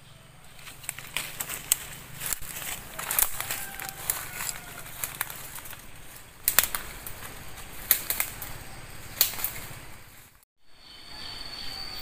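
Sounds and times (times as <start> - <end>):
brushing undergrowth: 0.2 - 10.4
footsteps through dry leaves: 0.4 - 10.4.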